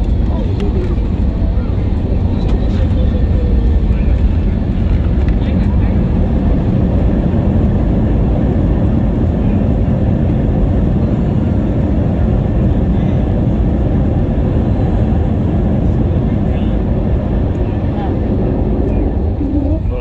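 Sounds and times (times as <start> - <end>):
jet engine rumble in cabin: 0.0 - 20.0.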